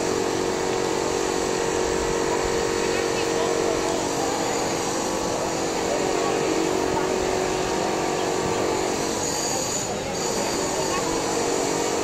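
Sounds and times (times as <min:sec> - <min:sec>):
faint crowd voices: 0:00.0 - 0:12.0
machine-like hum: 0:00.0 - 0:12.0.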